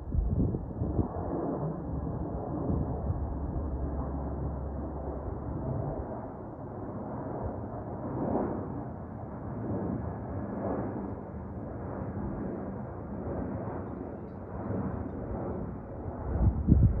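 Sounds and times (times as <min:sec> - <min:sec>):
jet airliner engine rumble: 0:00.0 - 0:17.0.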